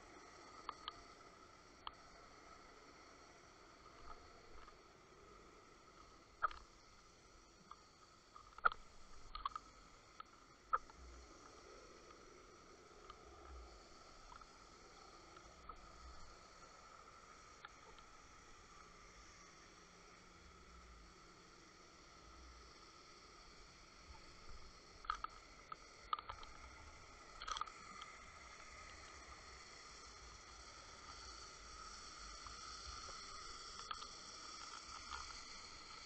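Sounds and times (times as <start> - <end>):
underwater hiss: 0.0 - 36.0.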